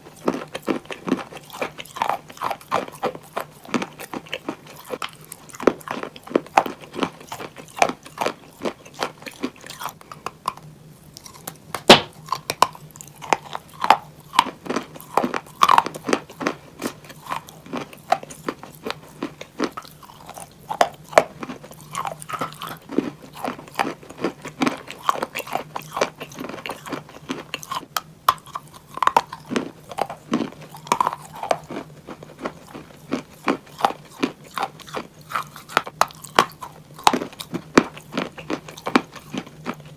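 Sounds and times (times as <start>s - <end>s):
chalk crunching in mouth: 0.0s - 39.9s
faint steady hum: 0.0s - 39.9s.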